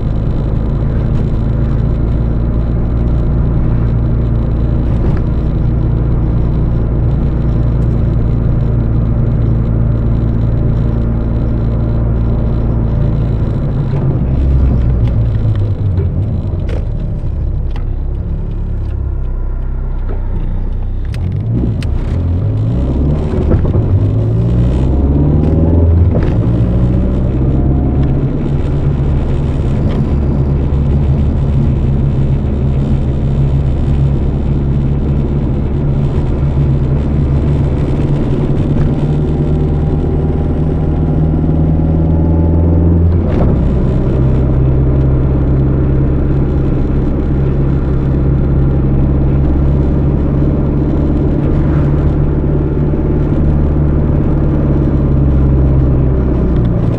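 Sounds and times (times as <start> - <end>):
turbocharged car engine revving: 0.0 - 56.9.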